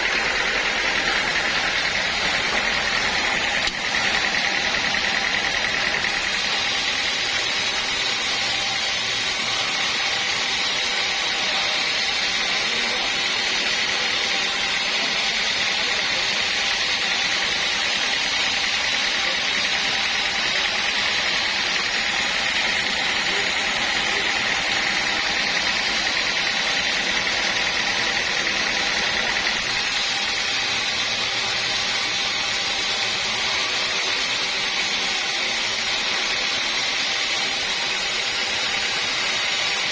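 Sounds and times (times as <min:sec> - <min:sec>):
band sawmill whining: 0:00.0 - 0:39.9.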